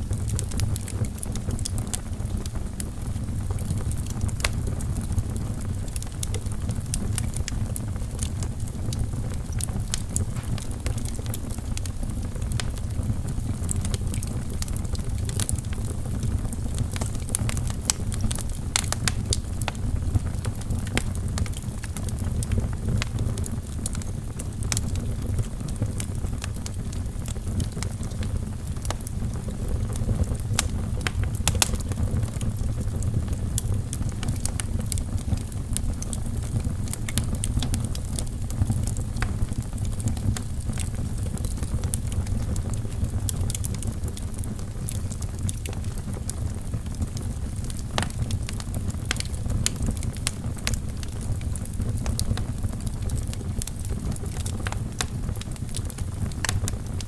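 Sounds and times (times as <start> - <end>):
burning wood crackling and popping: 0.0 - 57.0
fireplace flames rumbling: 0.0 - 57.0.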